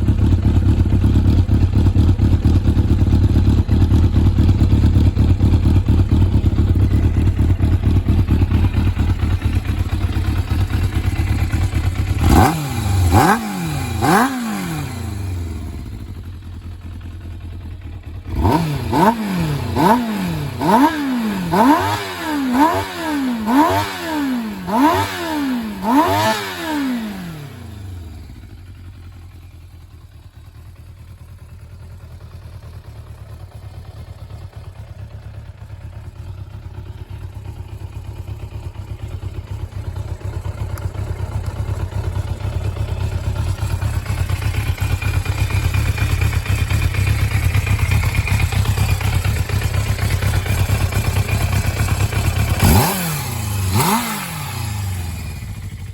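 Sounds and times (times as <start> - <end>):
motorcycle engine idling: 0.0 - 55.9
motorcycle engine revving: 0.0 - 55.9.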